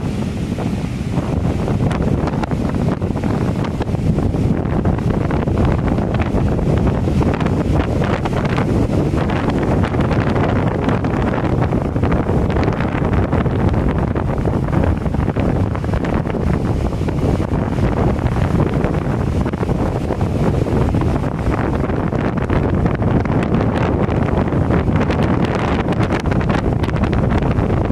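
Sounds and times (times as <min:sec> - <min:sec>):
ocean surf breaking: 0:00.0 - 0:27.9
wind buffeting microphone: 0:00.0 - 0:27.9.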